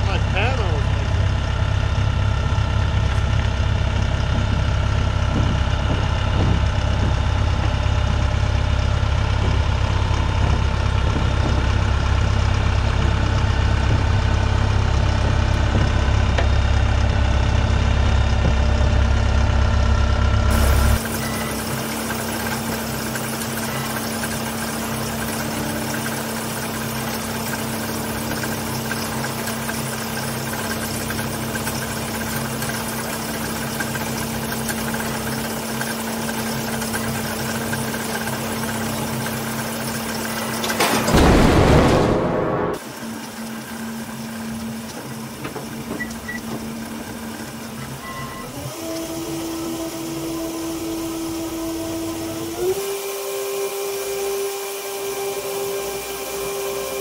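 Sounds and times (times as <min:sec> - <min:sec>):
diesel engine rumbling: 0:00.0 - 0:52.5
steady engine hum: 0:00.0 - 0:52.8.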